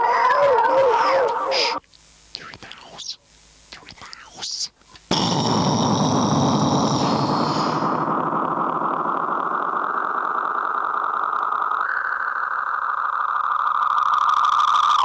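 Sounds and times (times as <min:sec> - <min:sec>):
harsh noise drone: 0:00.0 - 0:01.8, 0:02.4 - 0:15.0
buzzing hiss: 0:00.0 - 0:15.0.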